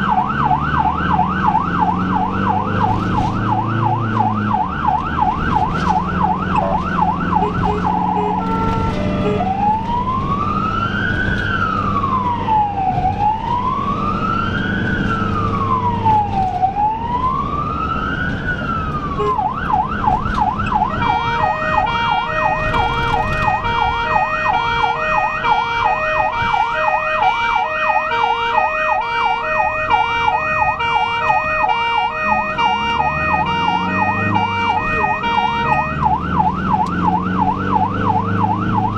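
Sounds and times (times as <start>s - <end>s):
ambulance siren yelp and wail: 0.0s - 38.9s
engine and road noise: 0.0s - 38.9s
stepped pulsing siren tone: 0.0s - 38.9s.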